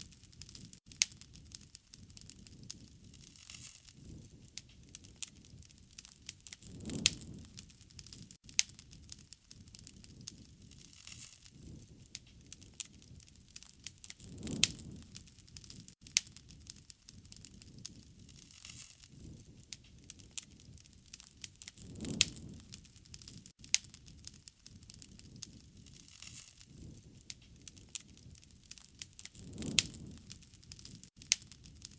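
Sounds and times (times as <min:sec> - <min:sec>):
rush of flame: 0:00.0 - 0:31.9
wood fire crackling and popping: 0:00.0 - 0:31.9.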